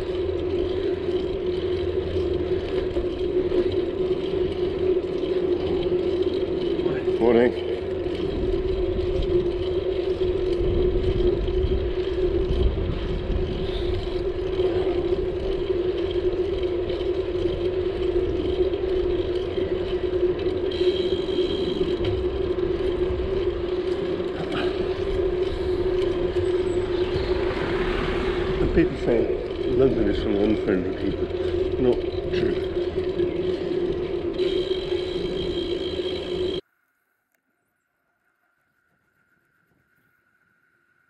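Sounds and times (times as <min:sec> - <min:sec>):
low wind rumble: 0:00.0 - 0:36.6
bicycle riding hum: 0:00.0 - 0:41.0.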